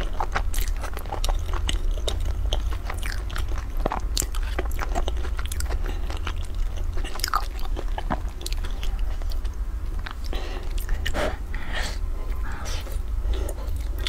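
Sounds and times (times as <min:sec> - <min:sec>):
close chewing and wet mouth sounds: 0:00.0 - 0:14.0.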